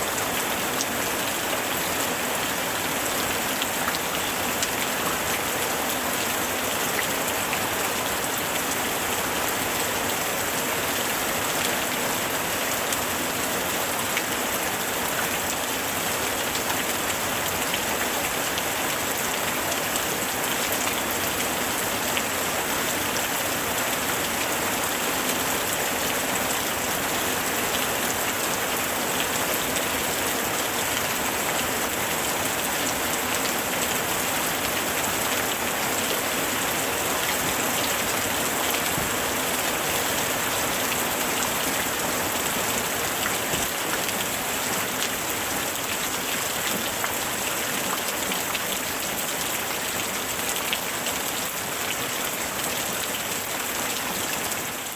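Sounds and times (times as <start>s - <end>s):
raindrops pattering on a surface: 3.4s - 49.6s.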